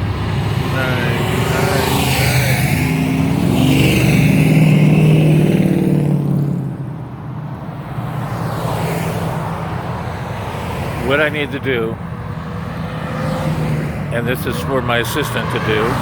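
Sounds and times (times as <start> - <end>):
car engine rumbling past: 0.0 - 16.0
quieter engine: 0.0 - 16.0.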